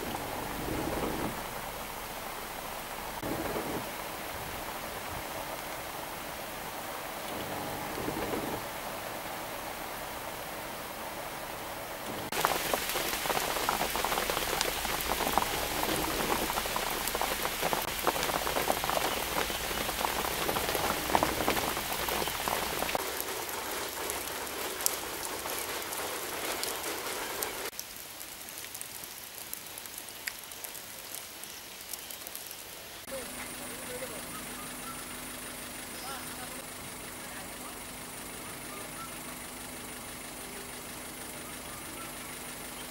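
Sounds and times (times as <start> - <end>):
heavy rain on water: 0.0 - 42.9.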